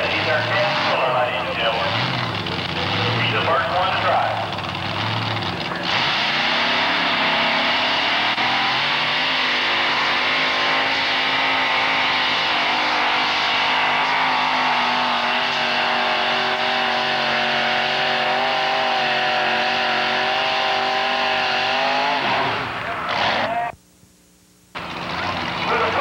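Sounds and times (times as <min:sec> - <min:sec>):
truck engine under heavy load: 0:00.0 - 0:23.8, 0:24.8 - 0:26.0.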